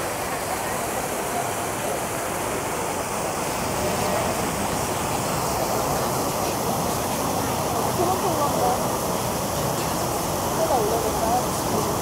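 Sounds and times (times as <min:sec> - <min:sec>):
fountain jets splashing: 0:00.0 - 0:12.0.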